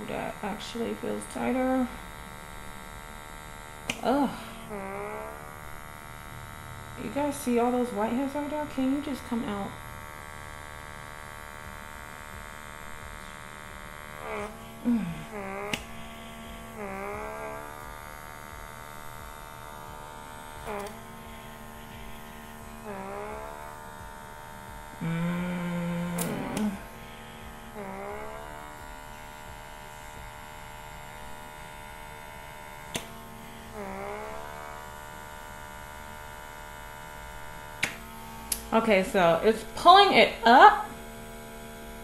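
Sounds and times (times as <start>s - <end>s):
suction vacuum humming: 0.0s - 42.0s.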